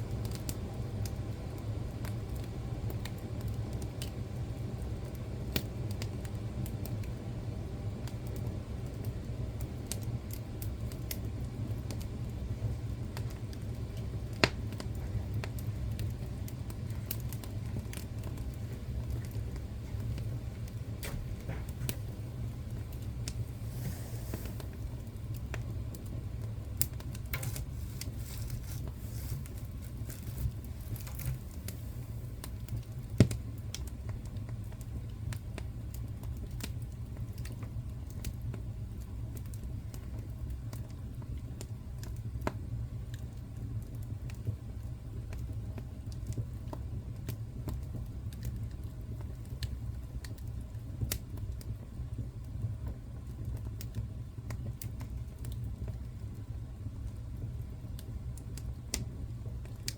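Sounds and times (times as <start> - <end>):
fire crackling: 0.0 - 59.9
fire flames rumbling: 0.0 - 59.9
wood fire popping: 0.0 - 59.9.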